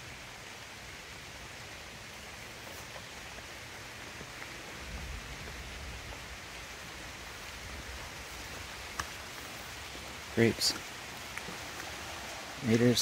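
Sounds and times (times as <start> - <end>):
rain falling on plants: 0.0 - 13.0.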